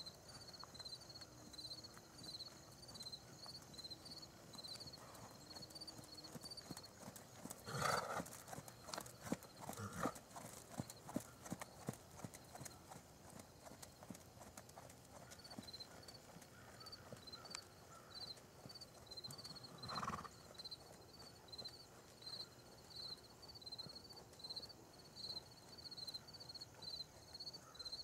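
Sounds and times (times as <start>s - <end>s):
horse hooves cantering on sand: 0.0s - 28.0s.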